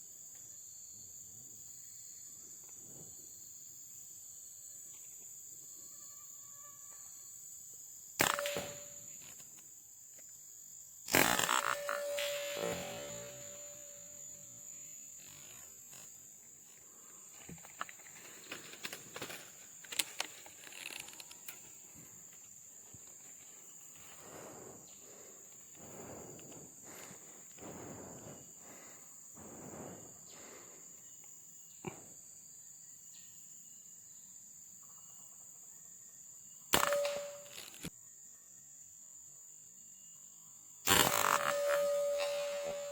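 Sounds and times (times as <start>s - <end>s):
high-pitched insect drone: 0.0s - 9.6s, 11.0s - 34.2s, 34.8s - 39.0s, 39.8s - 42.9s.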